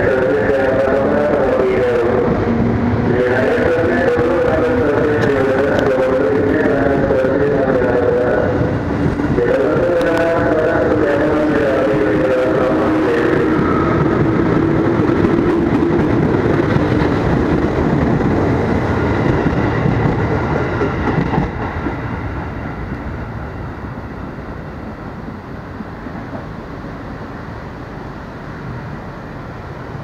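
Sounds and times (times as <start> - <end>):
train wheels rumbling and clacking: 0.0 - 27.1.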